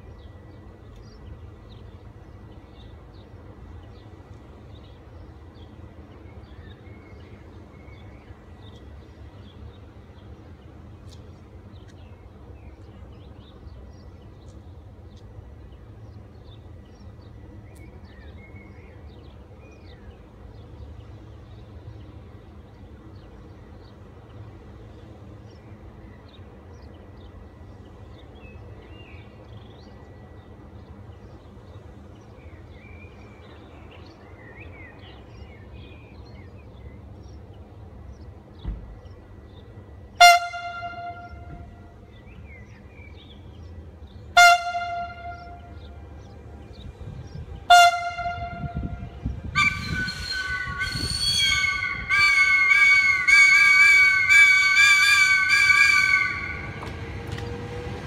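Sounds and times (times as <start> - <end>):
steady low rumble: 0.0 - 53.3.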